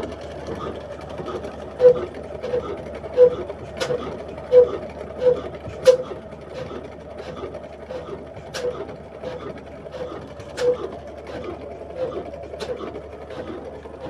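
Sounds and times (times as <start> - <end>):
diesel engine running slowly: 0.0 - 14.0.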